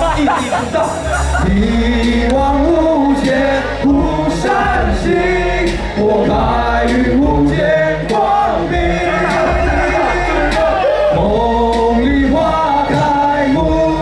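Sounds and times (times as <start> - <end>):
backing track with beat and bass: 0.0 - 14.0
men singing into microphones: 0.0 - 14.0.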